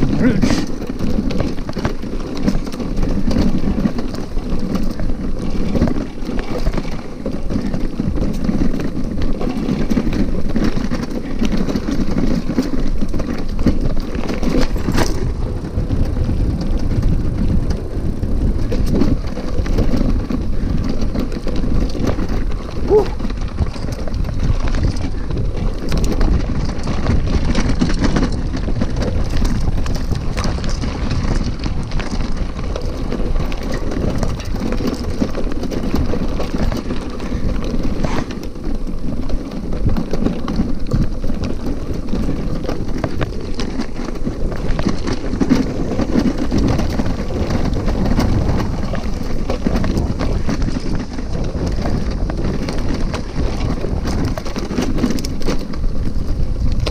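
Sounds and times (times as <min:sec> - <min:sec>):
bicycle rumbling and rattling: 0:00.0 - 0:56.9
bike knocks and clatter: 0:00.0 - 0:56.9.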